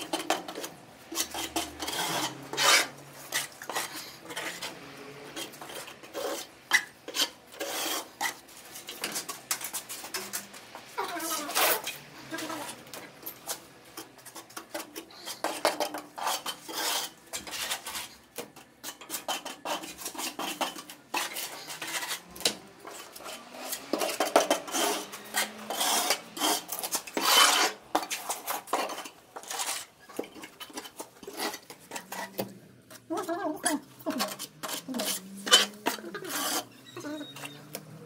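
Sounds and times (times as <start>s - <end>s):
steel trowel scraping mortar: 0.0s - 38.0s.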